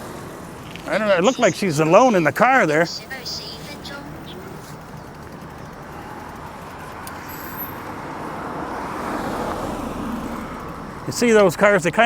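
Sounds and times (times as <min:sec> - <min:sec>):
passing cars hiss: 0:00.0 - 0:12.0.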